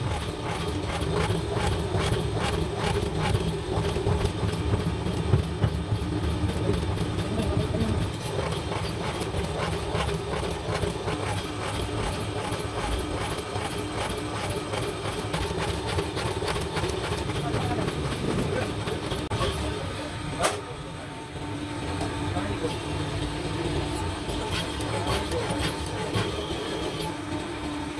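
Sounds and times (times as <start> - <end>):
spindle machine humming: 0.0 - 27.9.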